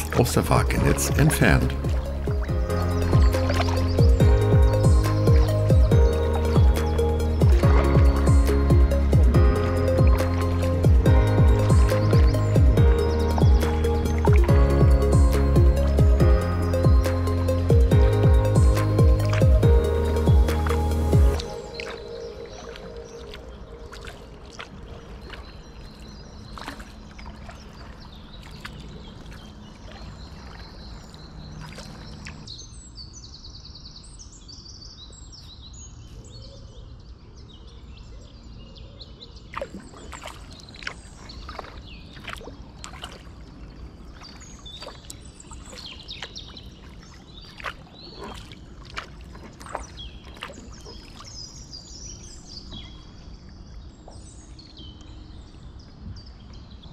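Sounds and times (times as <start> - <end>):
paddle splashing water: 0.0 - 32.6, 39.4 - 56.8
small birds chirping: 0.0 - 56.9.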